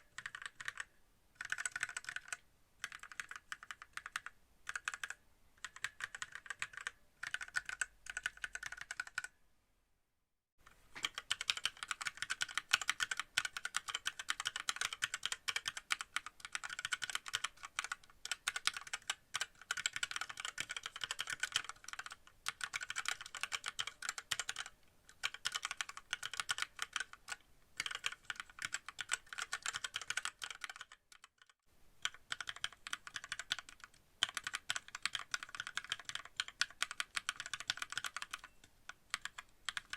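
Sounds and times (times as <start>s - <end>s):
fast mechanical keyboard typing: 0.0s - 9.3s, 11.0s - 39.9s.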